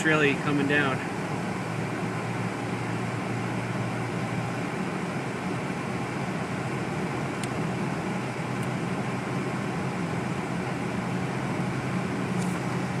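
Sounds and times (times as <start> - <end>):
defroster fan blowing: 0.0 - 13.0
engine and road drone: 0.0 - 13.0.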